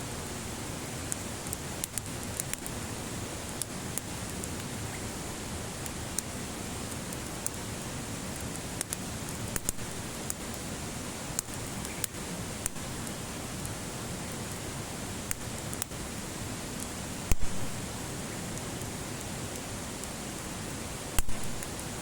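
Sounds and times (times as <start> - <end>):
fire crackling and popping: 0.0 - 22.0
fire hissing: 0.0 - 22.0.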